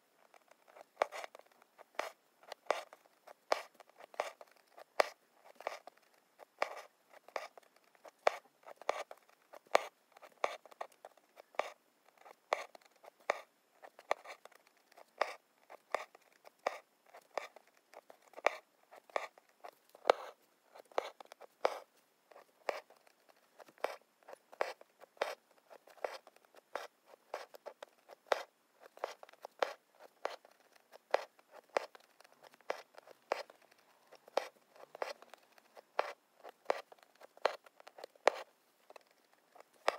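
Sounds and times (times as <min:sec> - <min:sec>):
thread rasping through fabric: 0:00.0 - 0:39.9
needle poking through fabric: 0:00.2 - 0:39.9.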